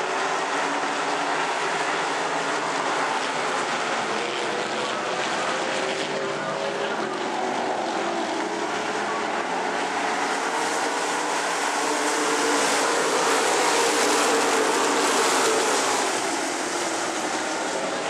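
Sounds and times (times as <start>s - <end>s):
race car engines roaring: 0.0s - 18.0s.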